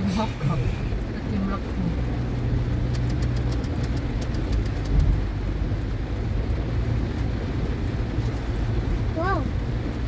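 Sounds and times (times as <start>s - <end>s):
car driving through floodwater: 0.0s - 10.0s
heavy rain on a car: 0.0s - 10.0s.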